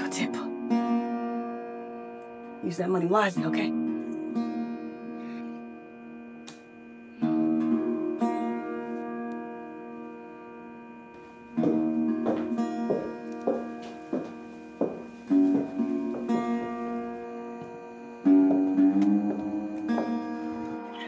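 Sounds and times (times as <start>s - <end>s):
guitar chords and plucked notes: 0.0s - 21.0s.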